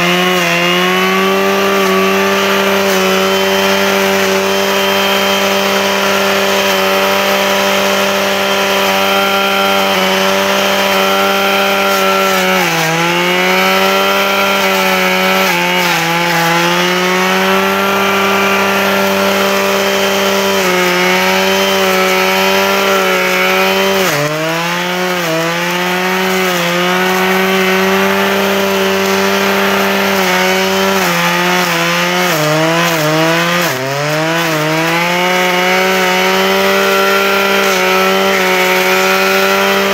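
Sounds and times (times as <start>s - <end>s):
brushcutter engine at high revs: 0.0s - 39.9s.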